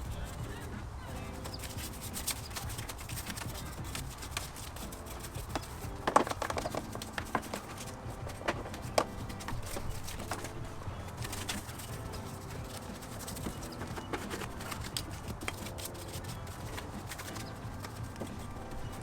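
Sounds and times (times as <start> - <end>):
brush scrubbing engine parts: 0.0 - 19.0
brush tapping plastic and metal: 0.0 - 19.0.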